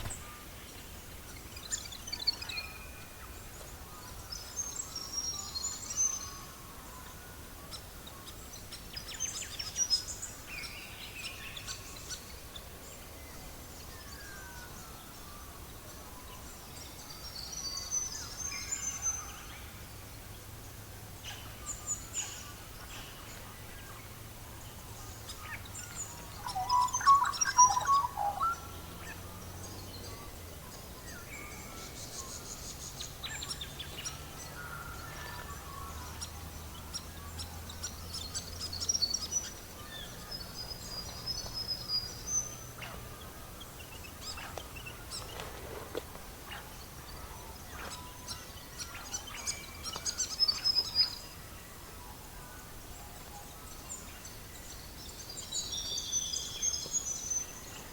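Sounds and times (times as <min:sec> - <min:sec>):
birds chirping and trilling: 0:00.0 - 0:57.9.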